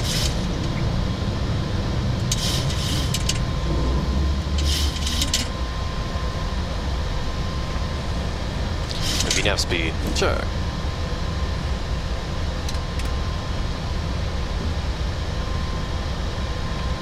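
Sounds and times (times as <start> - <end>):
airplane cockpit engine roar: 0.0 - 17.0.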